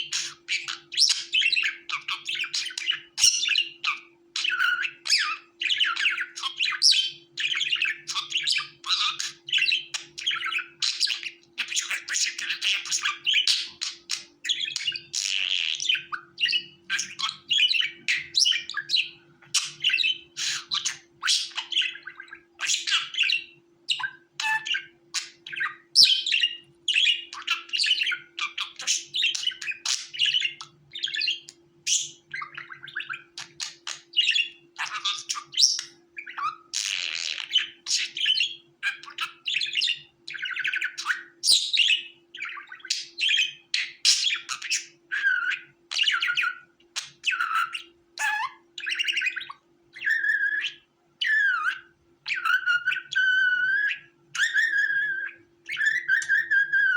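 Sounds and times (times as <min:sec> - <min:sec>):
budgerigars chirping and warbling: 0:00.0 - 0:56.9.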